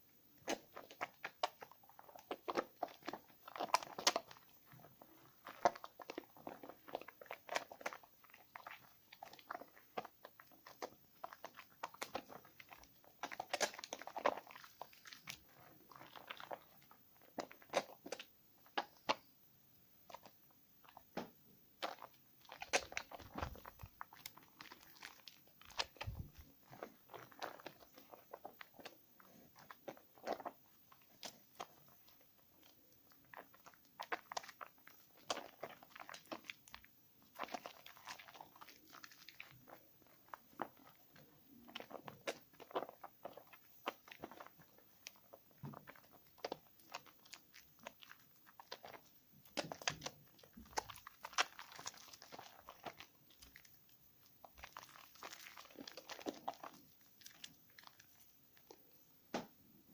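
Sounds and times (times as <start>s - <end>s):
hands lathering soap: 0.4s - 19.3s, 21.8s - 59.1s.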